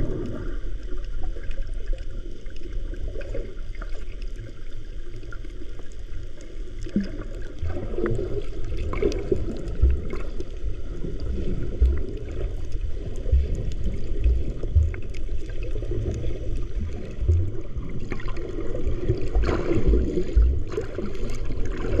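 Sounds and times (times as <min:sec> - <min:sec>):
water sloshing underwater: 0:00.0 - 0:22.0.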